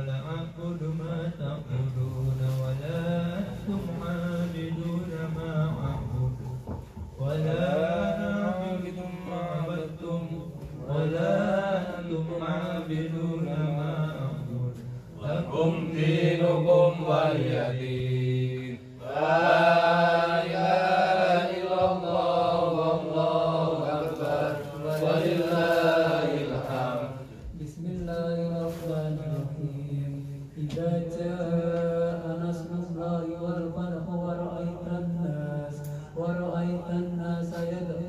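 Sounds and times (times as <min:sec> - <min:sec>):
man chanting recitation: 0:00.0 - 0:38.0.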